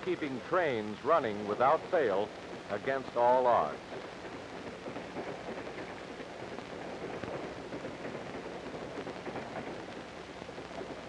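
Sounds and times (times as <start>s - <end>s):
film soundtrack crackle and hiss: 0.0s - 11.0s.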